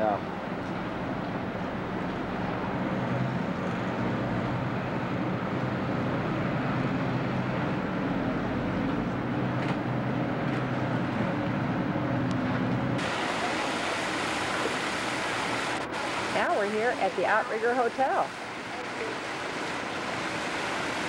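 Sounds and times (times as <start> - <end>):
broad rushing noise: 0.0 - 21.0
ship machinery humming: 0.0 - 21.0.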